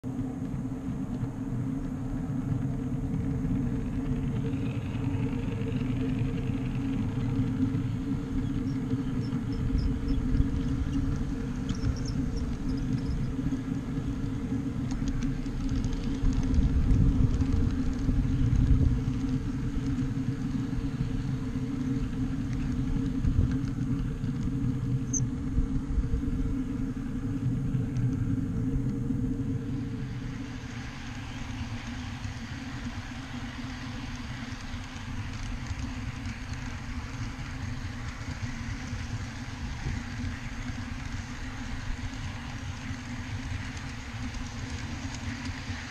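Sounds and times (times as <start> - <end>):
steady hum: 0.0 - 45.9
wheels rumbling on rail: 0.0 - 45.9.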